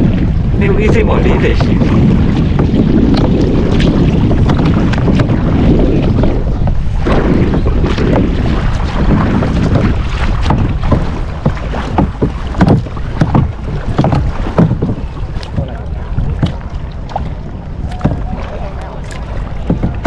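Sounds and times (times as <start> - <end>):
boat low rumble: 0.0 - 20.0
knocks and splashes: 0.0 - 20.0
wind buffeting microphone: 0.0 - 20.0.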